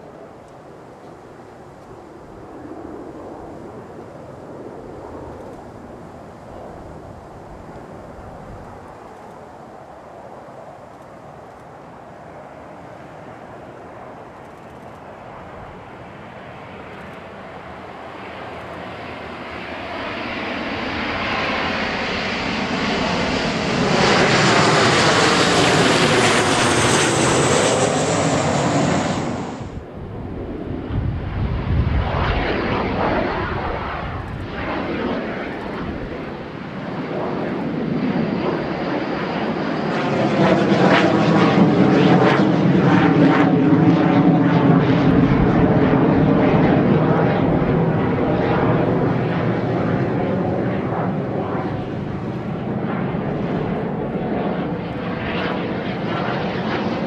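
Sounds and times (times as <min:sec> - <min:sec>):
jet aircraft flying past: 0:00.0 - 0:57.0.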